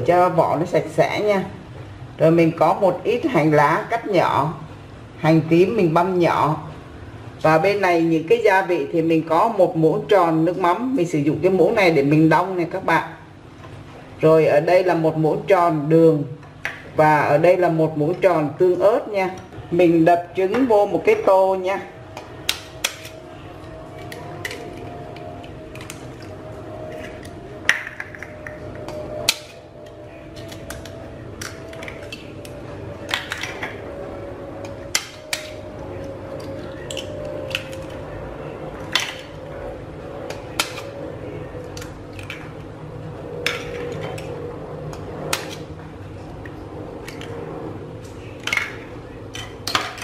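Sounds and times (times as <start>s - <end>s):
steady hum falling in pitch: 0.0s - 50.0s.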